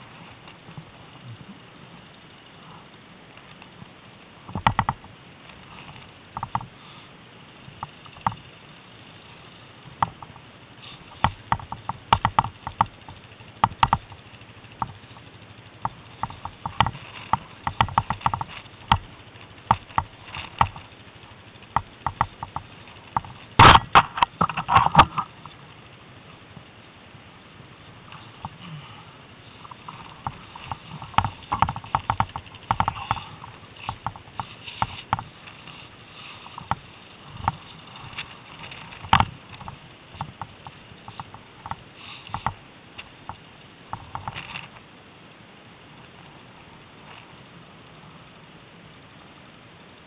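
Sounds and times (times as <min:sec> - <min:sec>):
faint engine hum: 0:00.0 - 0:50.0.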